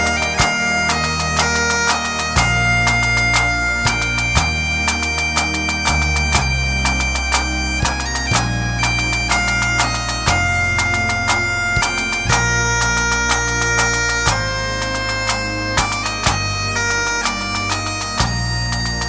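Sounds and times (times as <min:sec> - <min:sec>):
drum beat: 0:00.0 - 0:16.5
bagpipe melody with drones: 0:00.0 - 0:19.0.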